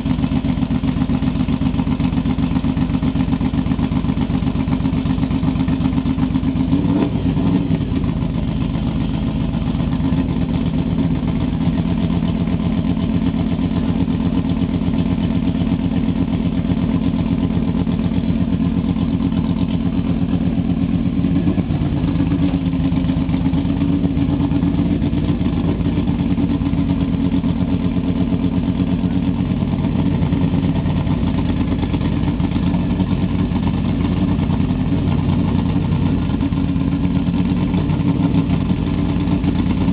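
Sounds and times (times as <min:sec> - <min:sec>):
car engine idling loudly: 0:00.0 - 0:39.9.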